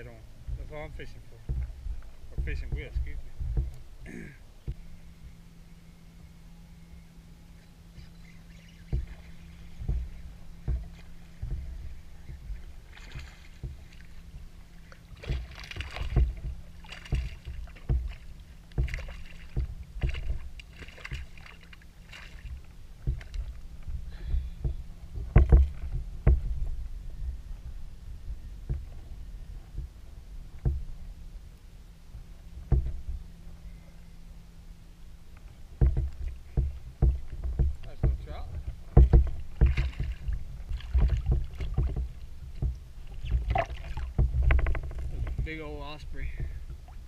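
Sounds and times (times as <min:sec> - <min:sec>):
waves knocking against a hull: 0:00.0 - 0:05.4, 0:07.8 - 0:33.7, 0:35.0 - 0:47.0.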